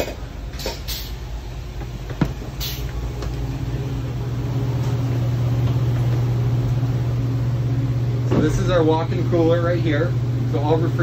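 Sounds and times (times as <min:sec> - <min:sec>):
refrigeration unit humming: 0:00.0 - 0:11.0.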